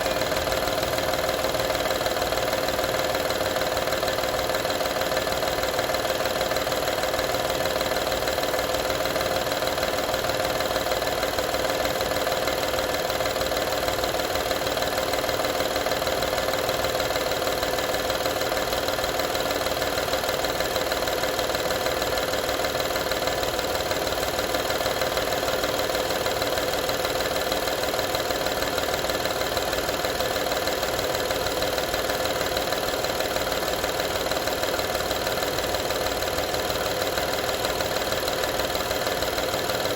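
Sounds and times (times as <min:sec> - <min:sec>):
car engine idling: 0:00.0 - 0:39.9
engine rattle: 0:00.0 - 0:39.9.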